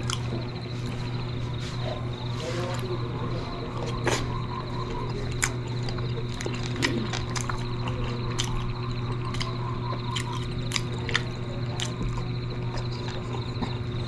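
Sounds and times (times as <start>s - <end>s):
chewing with wet mouth smacks: 0.0s - 14.0s
steady low hum: 0.0s - 14.0s.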